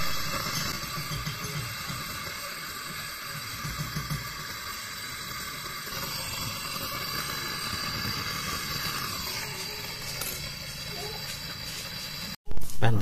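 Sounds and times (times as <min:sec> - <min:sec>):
brazing torch hissing: 0:00.0 - 0:12.4.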